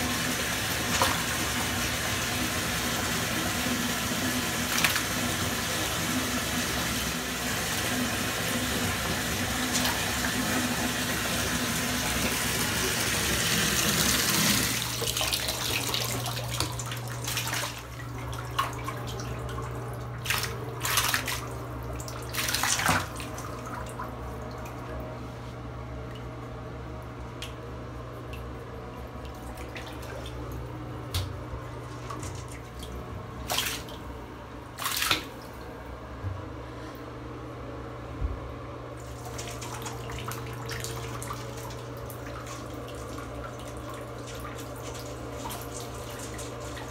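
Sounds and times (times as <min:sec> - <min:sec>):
bathwater lapping and splashing: 0:00.0 - 0:35.9, 0:38.9 - 0:46.9.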